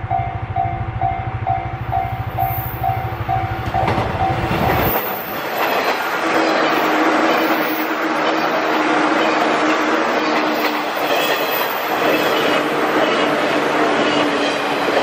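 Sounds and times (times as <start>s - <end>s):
level-crossing warning bell ringing: 0.0s - 13.6s
train rushing past: 0.0s - 15.0s
clickety-clack of train wheels: 1.0s - 15.0s.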